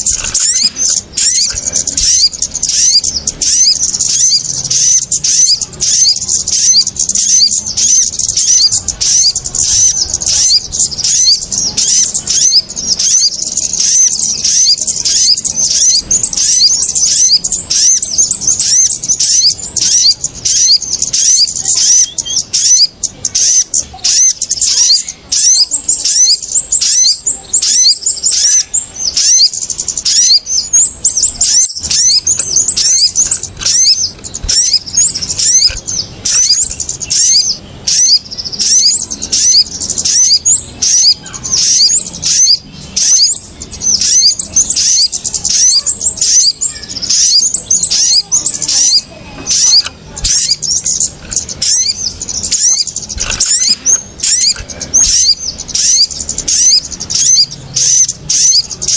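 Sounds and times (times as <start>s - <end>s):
small birds chirping in a flock: 0.0s - 58.9s.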